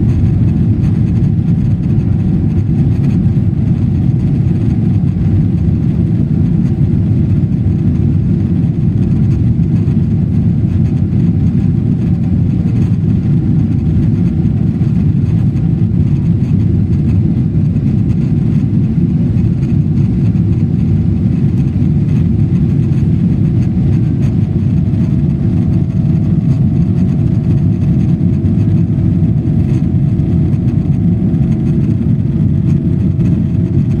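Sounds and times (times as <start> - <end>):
airliner engine rumble: 0.0 - 34.0.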